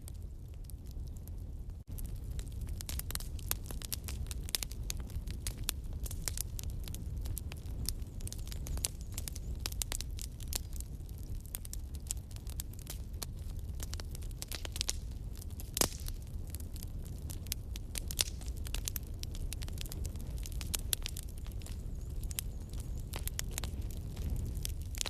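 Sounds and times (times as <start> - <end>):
fire crackling and popping: 0.0 - 25.0
low fire rumble: 0.0 - 25.0.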